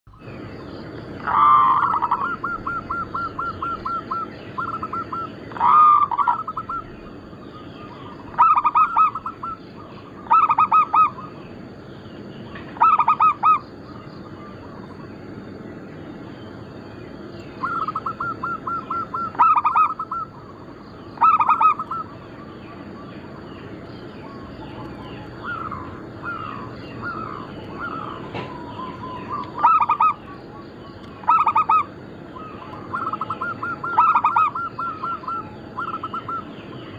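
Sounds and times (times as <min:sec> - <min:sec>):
dove cooing: 0:01.1 - 0:11.6, 0:12.6 - 0:15.0, 0:17.6 - 0:23.5, 0:24.2 - 0:36.9.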